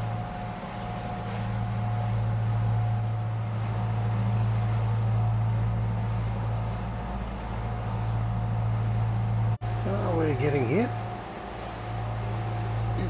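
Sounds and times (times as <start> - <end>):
diesel engine drone: 0.0 - 13.0
faint steady whine: 0.0 - 13.0.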